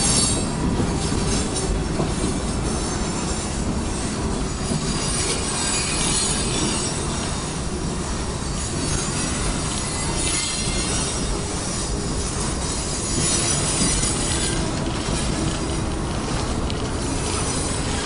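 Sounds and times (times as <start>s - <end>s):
steel wheels rumbling on rails: 0.0s - 18.0s.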